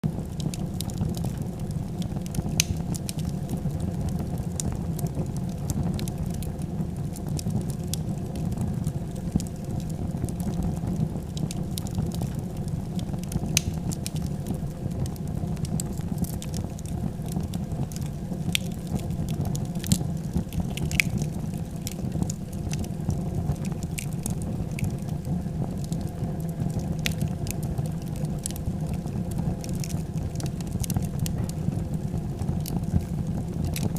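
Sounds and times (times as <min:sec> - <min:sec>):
fire crackling and popping: 0:00.0 - 0:33.9
flames rumbling: 0:00.0 - 0:33.9.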